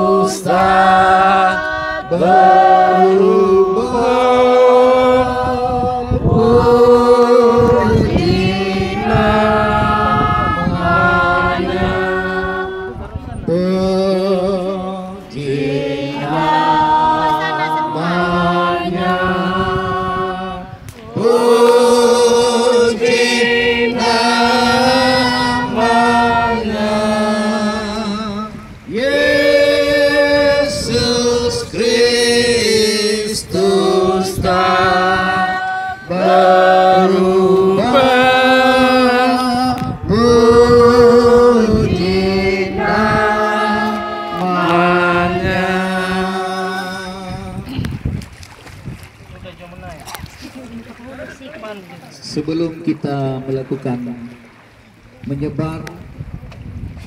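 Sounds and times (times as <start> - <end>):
group singing a hymn: 0.0 - 48.0.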